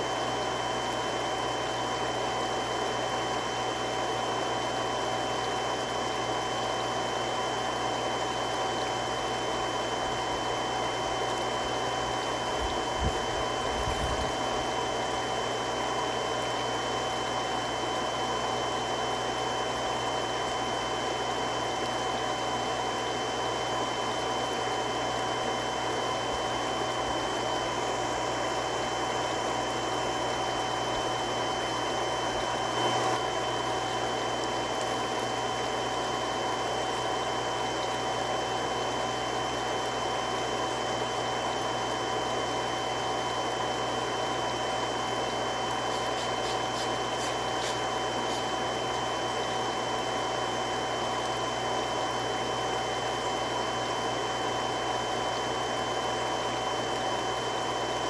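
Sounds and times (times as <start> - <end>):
water pump running: 0.0 - 58.0.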